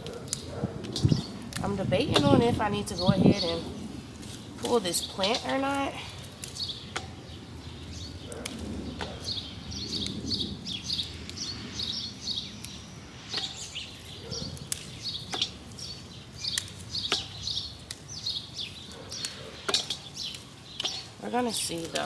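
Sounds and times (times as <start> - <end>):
handling clicks and rustles: 0.0 - 9.4, 13.4 - 22.0
small songbirds chirping: 0.0 - 22.0.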